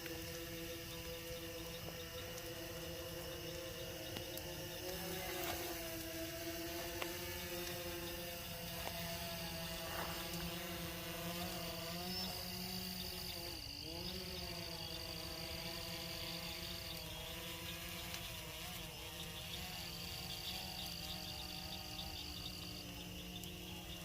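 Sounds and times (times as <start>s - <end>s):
drone propellers buzzing: 0.0s - 24.0s
insects chirring: 0.0s - 24.0s.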